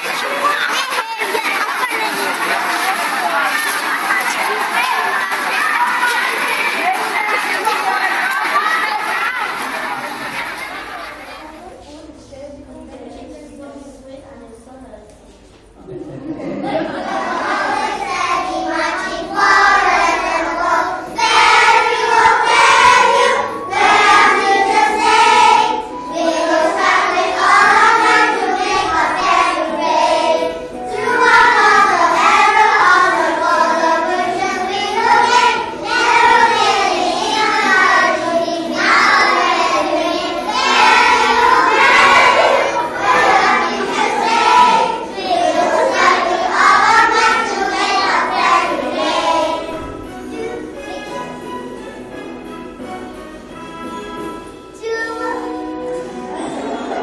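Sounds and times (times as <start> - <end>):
children singing: 0.0 - 11.6, 16.5 - 51.6.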